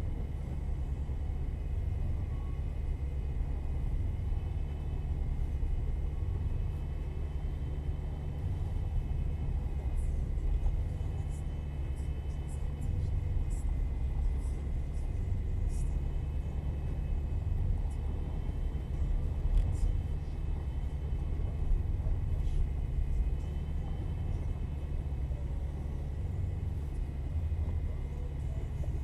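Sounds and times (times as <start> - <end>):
faint steady whine: 0.0 - 29.0
vehicle engine and road rumble: 0.0 - 29.0.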